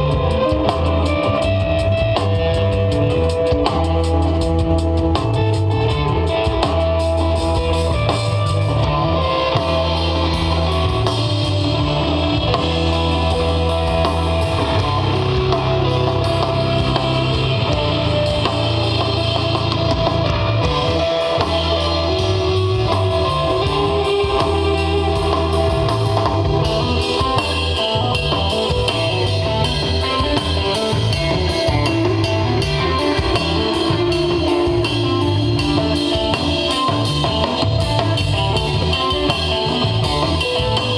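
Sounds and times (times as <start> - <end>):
bass notes: 0.0 - 40.9
drum kit with cymbals: 0.0 - 40.9
electric guitar lines: 0.0 - 40.9.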